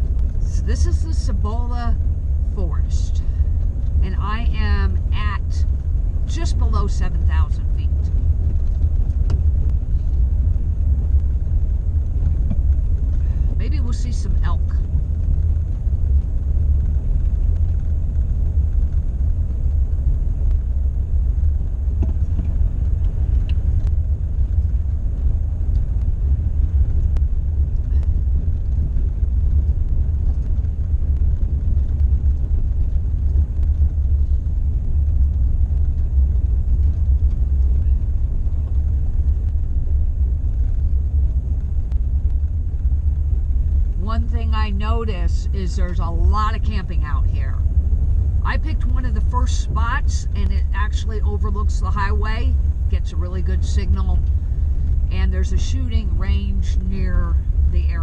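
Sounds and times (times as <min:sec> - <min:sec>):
vehicle driving on gravel: 0:01.6 - 0:50.3.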